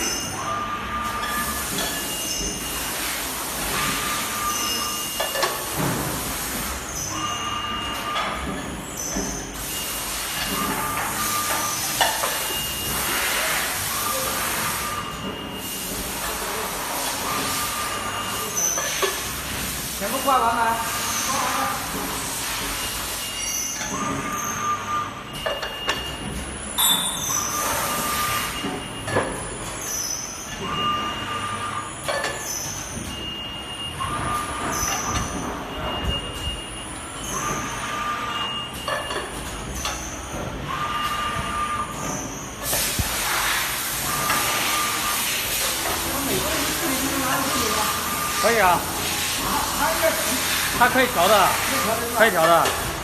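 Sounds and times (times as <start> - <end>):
screen printing machine hiss: 0.0 - 53.0.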